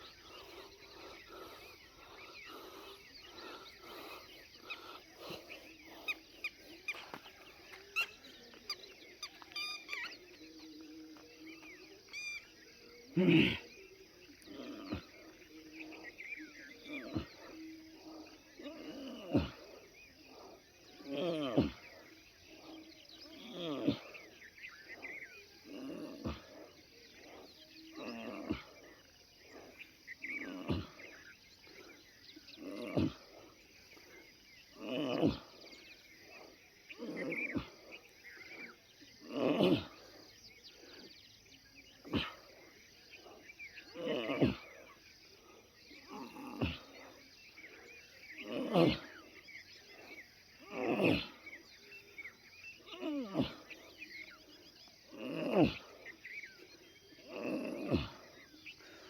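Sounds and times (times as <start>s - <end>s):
heavy breathing: 0.0s - 8.7s, 14.4s - 59.0s.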